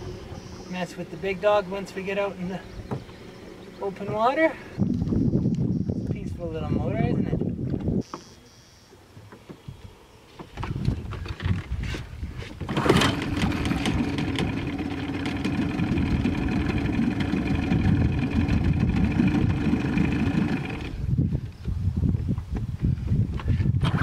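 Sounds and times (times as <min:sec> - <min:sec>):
outboard motor starting and running: 0:00.0 - 0:21.4, 0:23.4 - 0:24.0.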